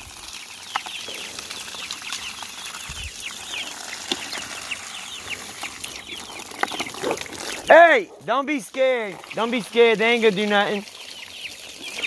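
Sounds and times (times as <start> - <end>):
chicks peeping: 0.2 - 12.0.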